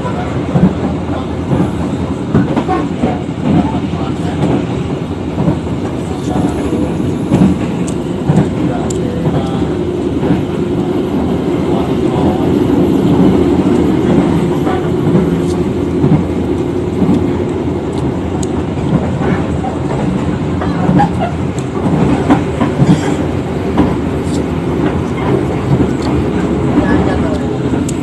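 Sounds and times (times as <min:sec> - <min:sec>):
clickety-clack over rail joints: 0:00.0 - 0:28.0
train wheels rumbling on rail: 0:00.0 - 0:28.0.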